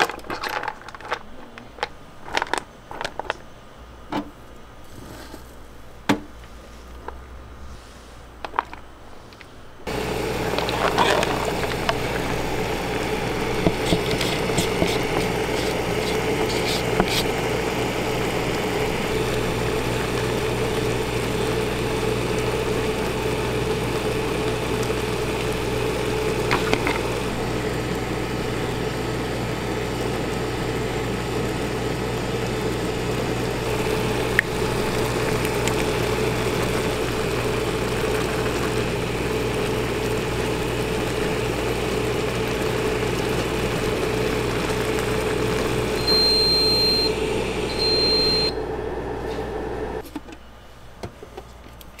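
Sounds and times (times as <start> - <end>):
cooking machine hum: 0.0 - 7.5, 9.7 - 52.0.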